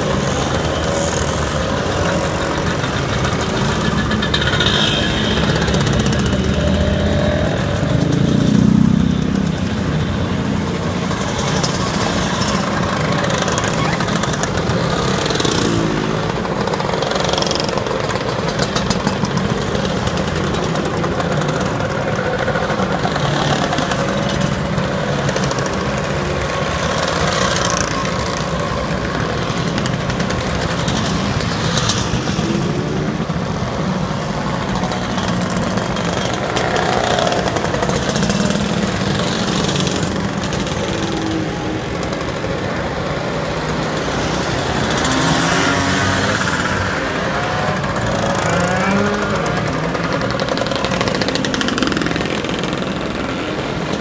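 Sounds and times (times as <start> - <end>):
scooters riding past: 0.0 - 54.0.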